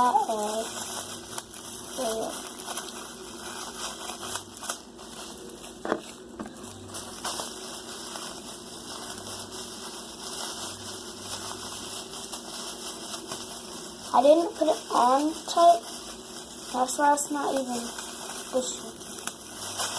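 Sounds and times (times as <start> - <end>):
plastic crinkles and clicks: 0.1 - 19.9.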